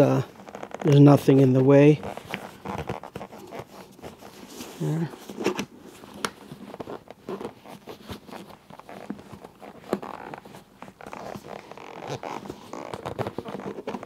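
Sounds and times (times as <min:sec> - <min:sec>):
fabric rustling: 0:00.0 - 0:14.0.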